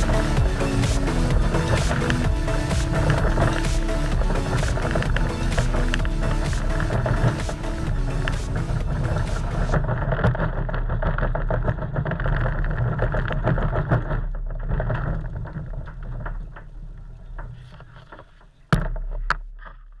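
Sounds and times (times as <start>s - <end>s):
cart rolling over concrete: 0.0s - 19.2s.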